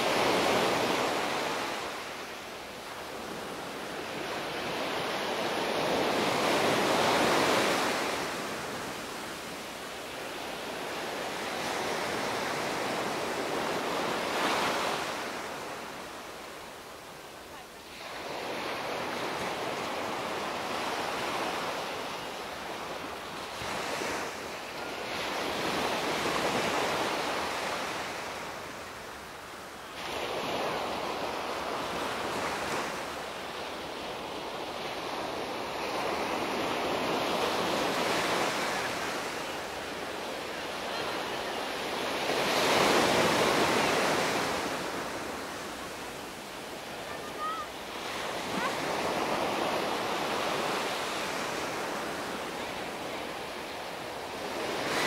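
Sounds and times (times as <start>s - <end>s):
small waves breaking on beach: 0.0s - 55.0s.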